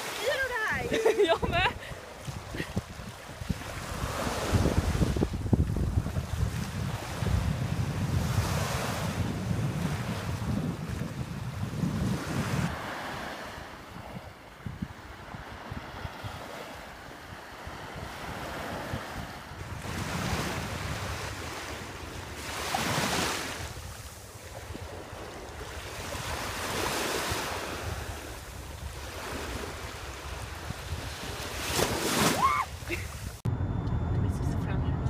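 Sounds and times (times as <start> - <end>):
small waves washing on sand: 0.0 - 33.4
wind buffeting microphone: 0.3 - 35.0.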